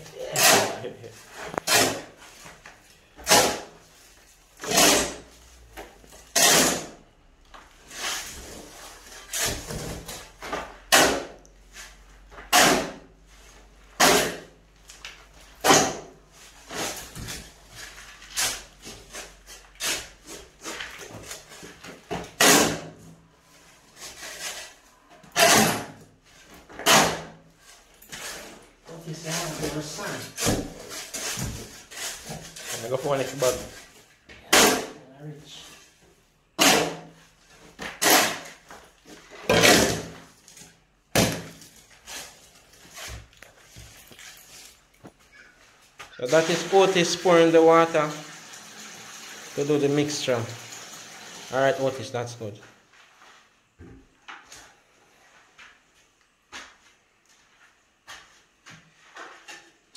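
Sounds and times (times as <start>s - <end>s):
shovel scraping concrete floor: 0.0s - 7.0s, 7.6s - 45.0s, 46.1s - 50.4s.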